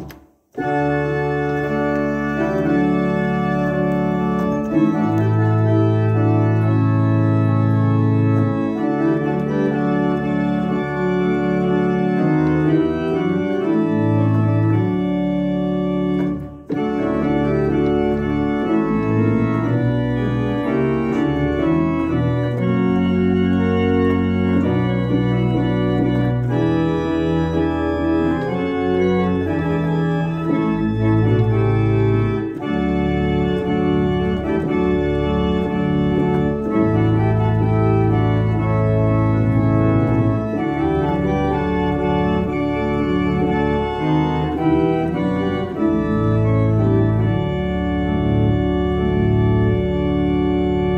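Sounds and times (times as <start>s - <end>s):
church organ playing a hymn: 0.0s - 50.9s.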